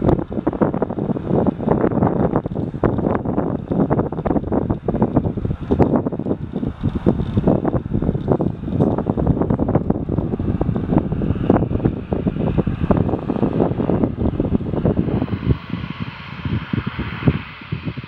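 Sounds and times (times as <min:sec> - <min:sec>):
faint turboprop engine hum: 0:00.0 - 0:18.0
wind buffeting microphone: 0:00.0 - 0:18.0.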